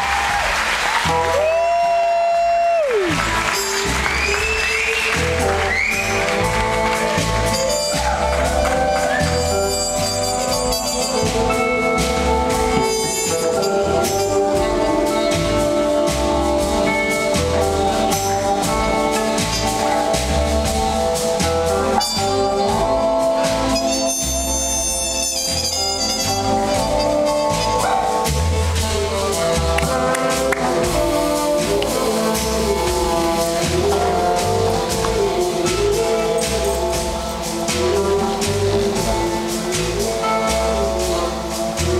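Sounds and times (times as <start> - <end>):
drums: 0.0 - 41.9
saxophone: 0.0 - 41.9
horn section holding notes: 0.1 - 41.9
bass guitar pulsing: 1.0 - 41.9.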